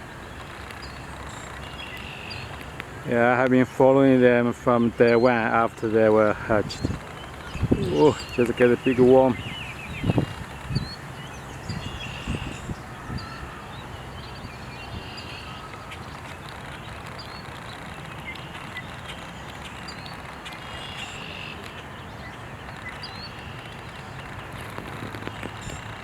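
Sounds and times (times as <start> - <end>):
birds chirping: 0.0 - 26.0
steady background hiss: 0.0 - 26.0.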